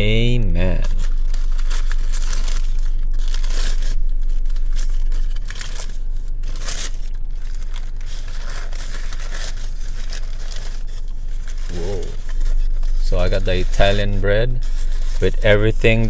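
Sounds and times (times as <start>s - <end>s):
paper wrapper crinkling and tearing: 0.0s - 16.0s.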